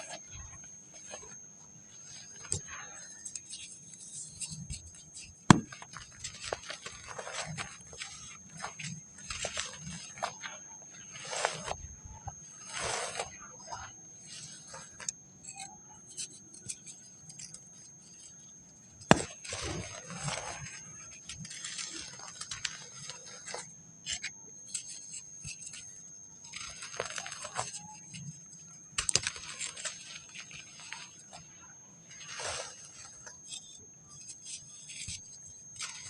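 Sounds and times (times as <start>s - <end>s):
dry sand crumbled by hand: 2.0s - 16.0s, 19.0s - 25.8s, 26.4s - 28.4s, 29.0s - 31.4s, 32.1s - 36.0s.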